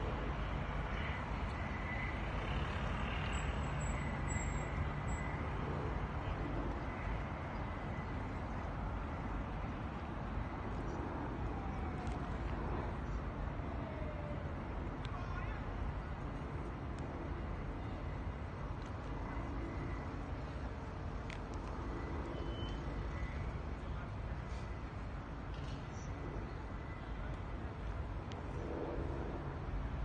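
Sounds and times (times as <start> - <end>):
road traffic hum: 0.0 - 30.0.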